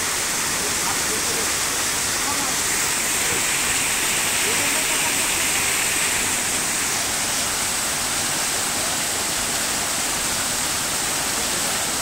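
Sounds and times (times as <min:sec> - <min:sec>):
waterfall crashing onto rocks: 0:00.0 - 0:12.0.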